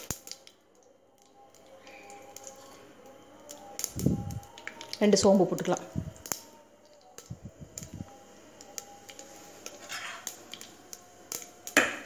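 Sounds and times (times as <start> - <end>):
spices spluttering in hot oil: 0.0 - 12.0.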